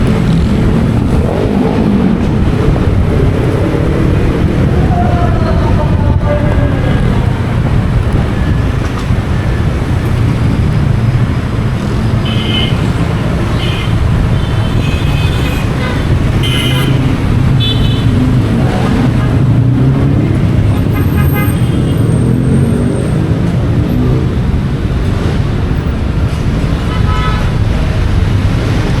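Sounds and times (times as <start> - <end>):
motorcycle engine and road rumble: 0.0 - 29.0.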